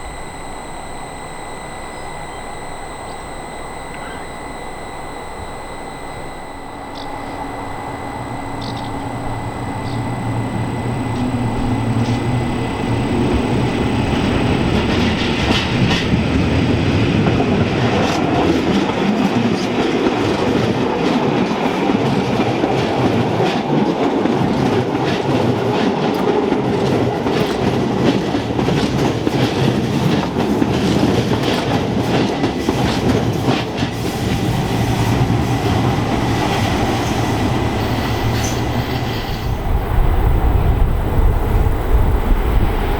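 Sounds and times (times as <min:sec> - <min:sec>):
train wheels clicking over rail joints: 0:05.8 - 0:42.9.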